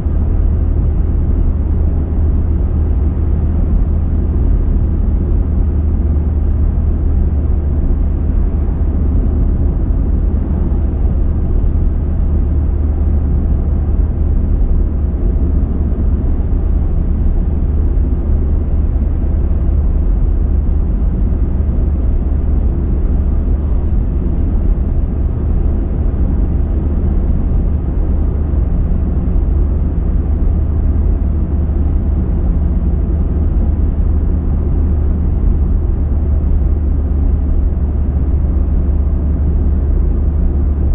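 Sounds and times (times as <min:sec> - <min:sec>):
car engine hum: 0:00.0 - 0:40.9
car road and tyre noise: 0:00.0 - 0:40.9.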